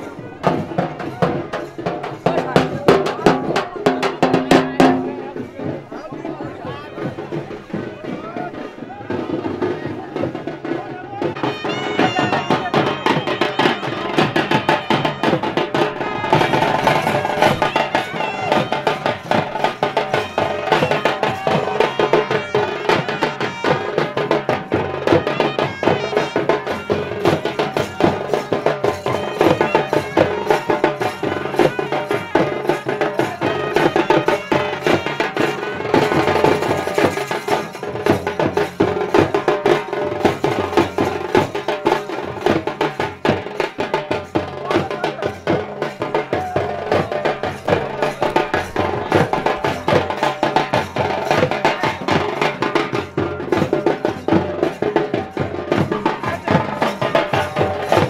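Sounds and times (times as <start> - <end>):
fast drumming: 0.0 - 58.0.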